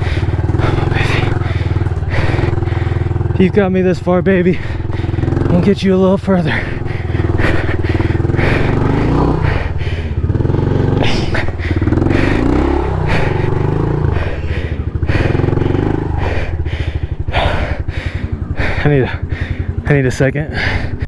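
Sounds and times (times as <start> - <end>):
small motorbike engine revving: 0.0 - 21.0.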